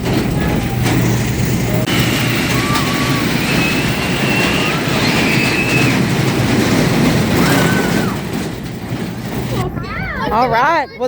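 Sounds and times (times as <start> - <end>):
high squeals: 0.0 - 10.3
amusement ride rumble: 0.0 - 11.0.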